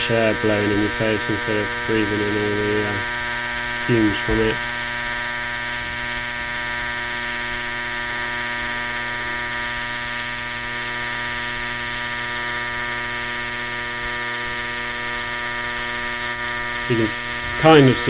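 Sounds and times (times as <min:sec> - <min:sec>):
welding arc buzzing: 0:00.0 - 0:18.0.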